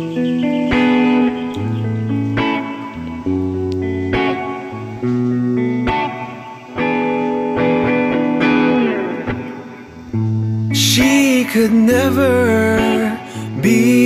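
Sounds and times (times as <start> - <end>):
guitar-led instrumental music: 0.0 - 14.0.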